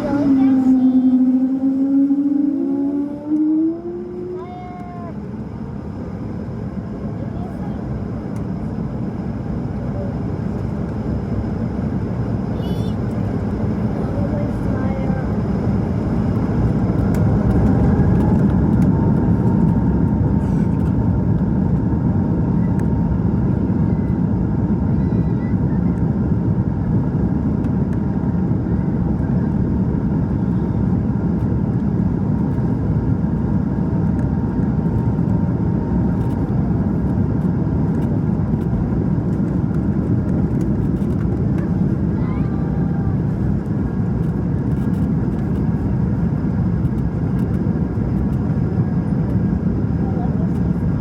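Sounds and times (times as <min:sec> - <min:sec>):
airplane cabin engine noise: 0:00.0 - 0:51.0.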